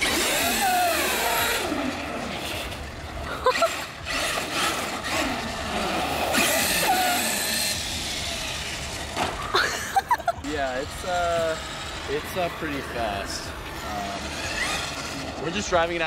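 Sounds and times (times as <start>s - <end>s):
rc truck motor whining: 0.0s - 16.0s.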